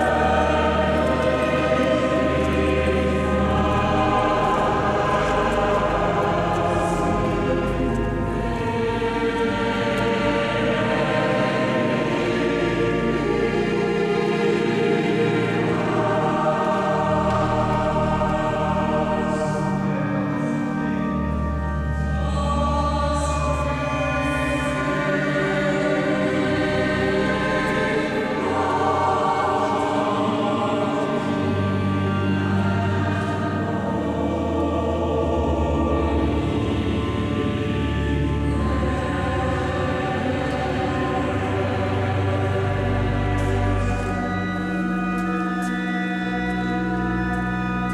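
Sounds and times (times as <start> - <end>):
choir singing held chords: 0.0 - 47.9.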